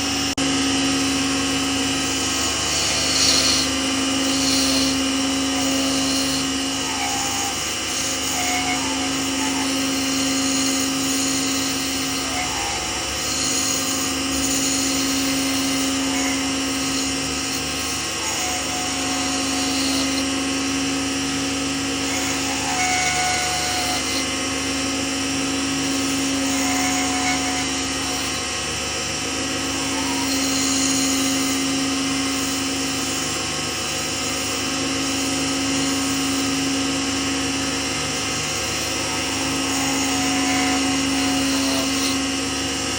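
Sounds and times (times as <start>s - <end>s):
lathe motor humming: 0.0s - 42.9s.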